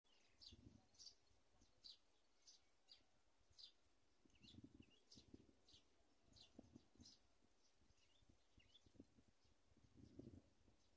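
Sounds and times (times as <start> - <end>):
bird chirping: 0.0 - 10.9.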